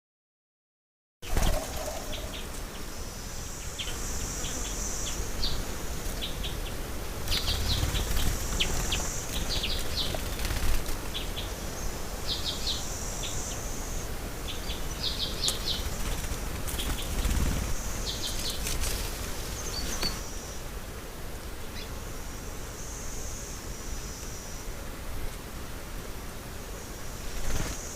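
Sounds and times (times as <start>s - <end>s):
high hissy bird trill: 1.2s - 25.2s
songbirds chirping: 1.2s - 25.4s.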